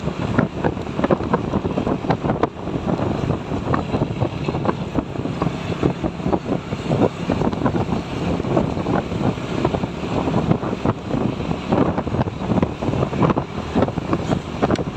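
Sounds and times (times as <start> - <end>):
truck running: 0.0 - 14.9
wind buffeting microphone: 0.0 - 14.9.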